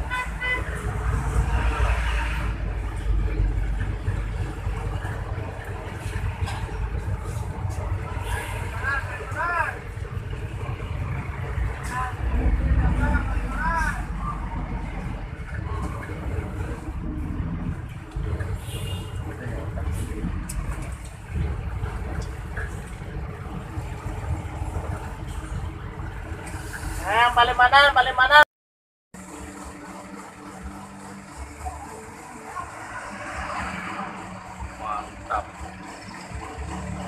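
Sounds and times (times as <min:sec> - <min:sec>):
bus engine exhaust rumble: 0:00.0 - 0:28.3, 0:29.2 - 0:37.0.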